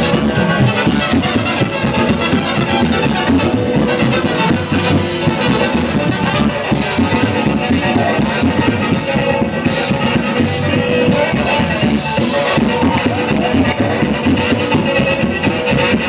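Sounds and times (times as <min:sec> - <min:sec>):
brass band dance music with drums: 0:00.0 - 0:16.0.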